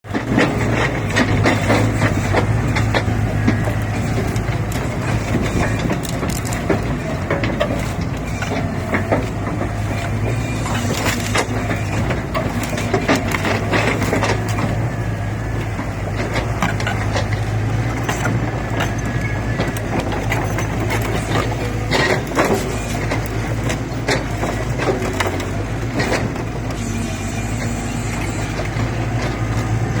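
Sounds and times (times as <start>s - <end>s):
excavator engine running: 0.0s - 30.0s
logs knocking and cracking: 0.1s - 26.8s.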